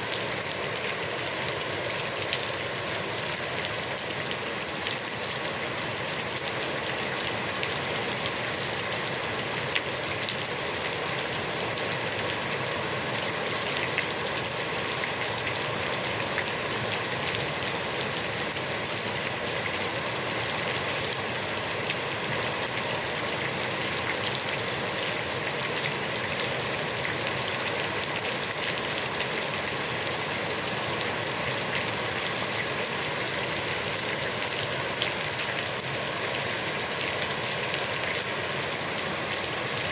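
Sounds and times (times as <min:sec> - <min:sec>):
heavy rain on pond water: 0:00.0 - 0:39.9.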